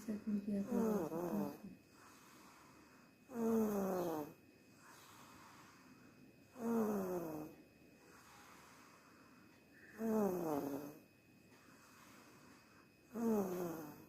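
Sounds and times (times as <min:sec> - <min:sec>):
child snoring: 0:00.0 - 0:14.0.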